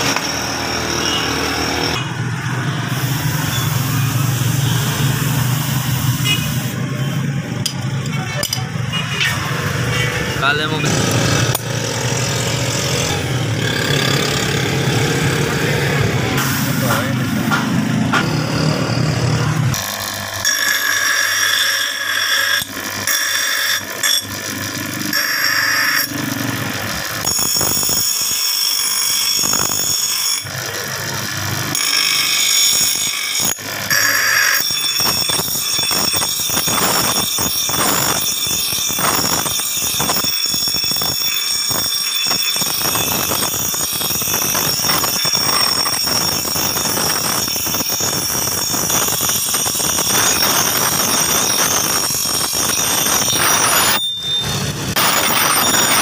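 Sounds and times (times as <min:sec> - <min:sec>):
bench grinder grinding steel: 0:00.0 - 0:56.0.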